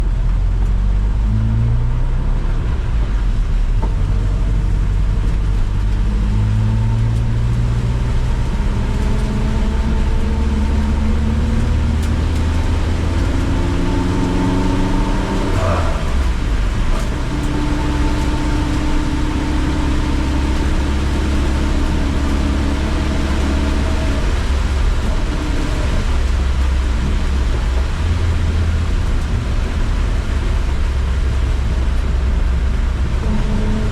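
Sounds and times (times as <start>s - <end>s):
car engine at full throttle: 0.0s - 33.9s
heavy rain: 0.0s - 33.9s
wet tyres hissing: 5.4s - 33.2s.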